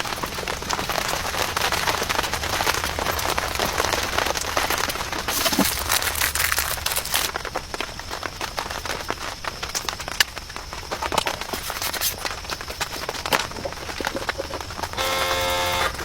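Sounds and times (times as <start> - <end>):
faint rain hiss: 0.0 - 16.0
raindrops tapping on a surface: 0.0 - 16.0.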